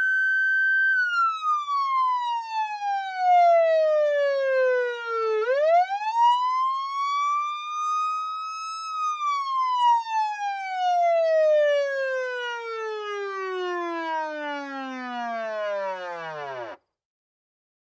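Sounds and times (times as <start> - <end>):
police siren wail: 0.0 - 16.8.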